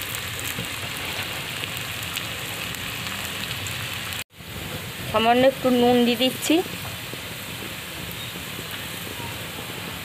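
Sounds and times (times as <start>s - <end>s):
potatoes frying in hot oil: 0.0s - 10.0s.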